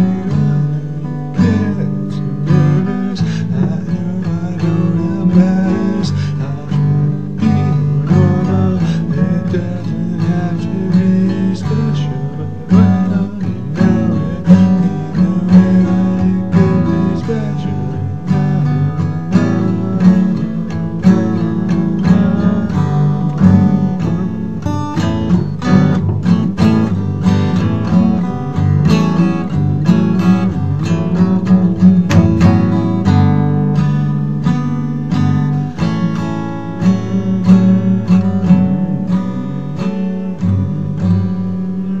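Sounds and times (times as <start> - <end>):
acoustic guitars plucking and strumming: 0.0 - 42.0.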